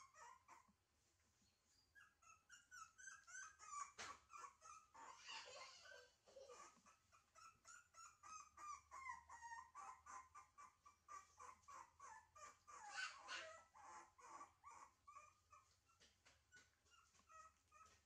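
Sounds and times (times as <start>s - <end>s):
puppy whimpering: 0.0s - 0.7s, 1.8s - 18.0s.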